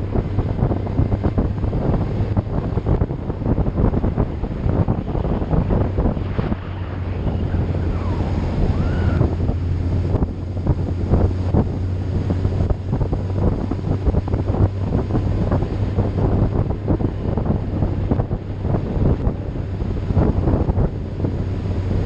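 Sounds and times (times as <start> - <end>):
low engine drone: 0.0 - 22.0
wind buffeting microphone: 0.0 - 22.0.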